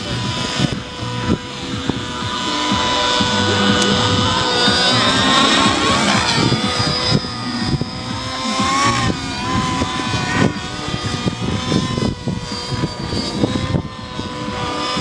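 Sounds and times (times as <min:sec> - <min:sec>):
helicopter rotors: 0:00.0 - 0:15.0
model helicopter motor whine: 0:00.0 - 0:15.0.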